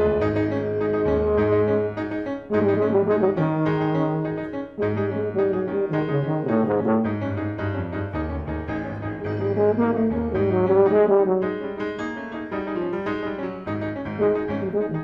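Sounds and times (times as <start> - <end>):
piano chords: 0.0 - 15.0
tuba playing: 0.0 - 15.0.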